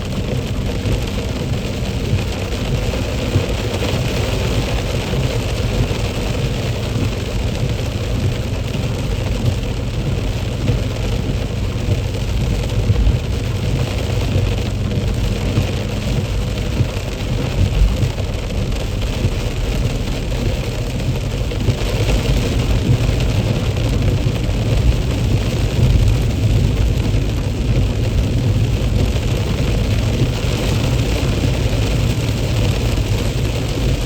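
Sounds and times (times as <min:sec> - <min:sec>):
car engine and road rumble: 0:00.0 - 0:34.0
rain and wet tyres hissing: 0:00.0 - 0:34.0.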